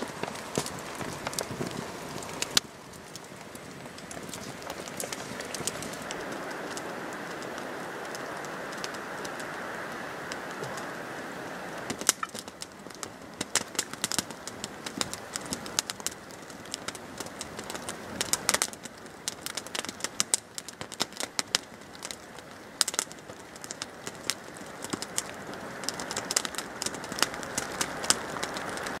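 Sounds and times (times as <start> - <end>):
campfire crackling and popping: 0.0 - 29.0
steady hiss: 0.0 - 29.0.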